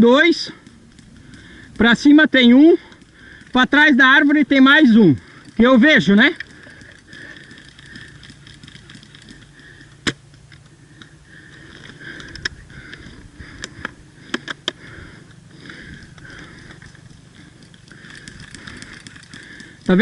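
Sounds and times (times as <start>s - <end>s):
high background hum: 0.0s - 20.0s.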